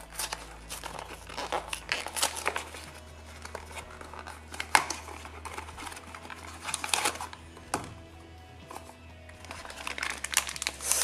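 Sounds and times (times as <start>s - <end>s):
paper crinkling and tearing: 0.0s - 8.0s, 8.7s - 11.0s.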